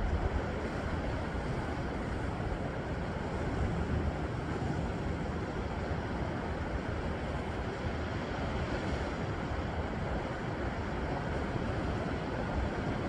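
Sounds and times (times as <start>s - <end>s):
surf washing over rocks: 0.0s - 13.0s
wind rumble on microphone: 0.0s - 13.0s.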